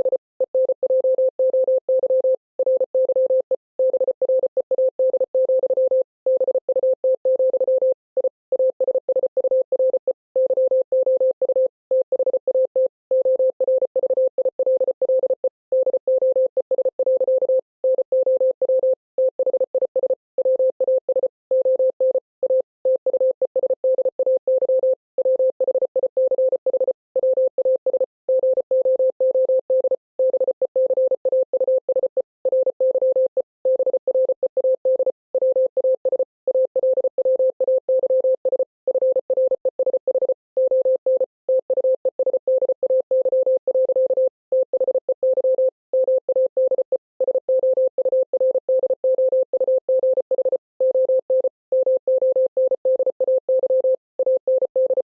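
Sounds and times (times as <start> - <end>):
morse code beeps: 0.0 - 55.0.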